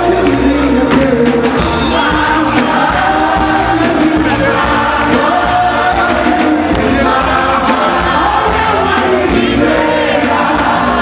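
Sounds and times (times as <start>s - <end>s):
voices singing gospel music: 0.0s - 11.0s
percussive beat: 0.3s - 11.0s.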